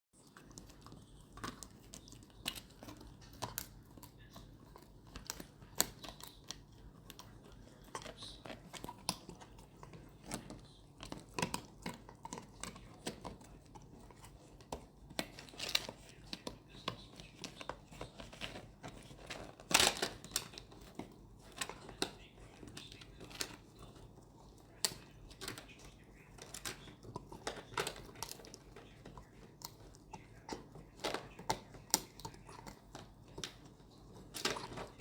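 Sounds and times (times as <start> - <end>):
puppy gnawing on a chew: 0.2 - 35.0.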